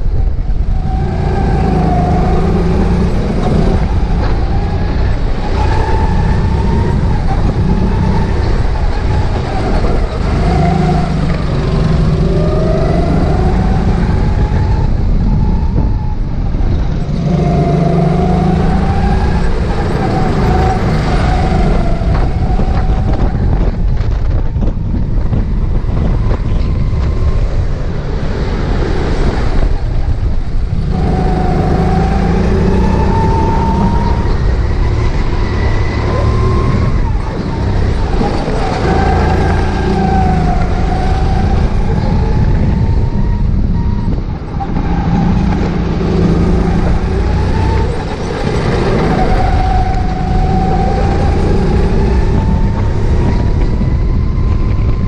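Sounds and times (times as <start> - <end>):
go-kart motor: 0.0 - 55.0
wind and tyre rumble: 0.0 - 55.0.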